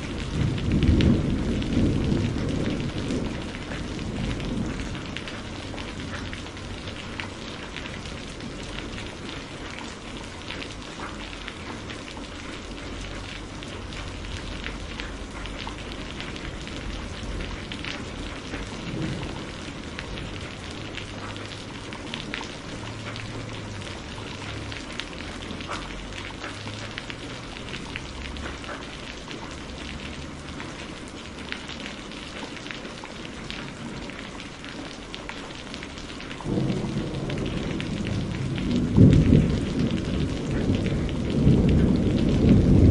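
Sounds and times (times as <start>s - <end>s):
rain hissing: 0.0s - 42.9s.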